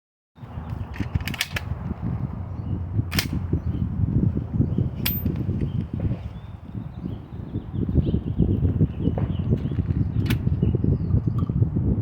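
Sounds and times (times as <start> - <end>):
steady low rumble: 0.4 - 12.0.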